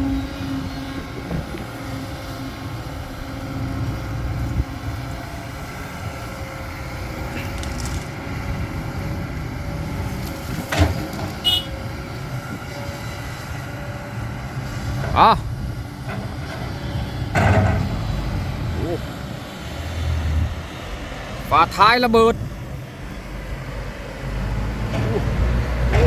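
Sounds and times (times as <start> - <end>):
vehicle driving on dirt road: 0.0 - 26.0.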